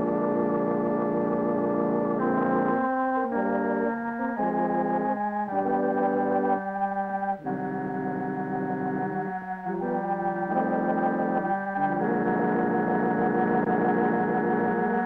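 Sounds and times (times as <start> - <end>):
organ chords: 0.0 - 15.0.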